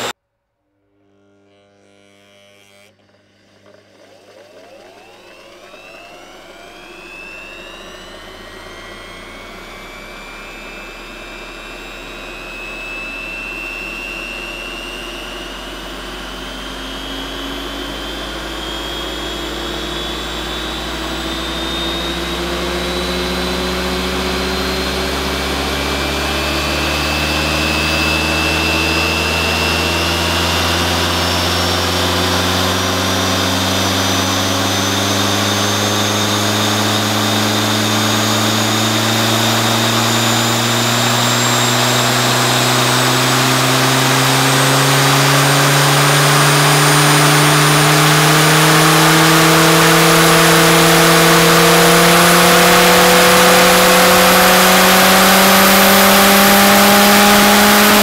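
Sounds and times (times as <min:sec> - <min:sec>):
lawn mower motor whine: 0:00.0 - 0:58.0.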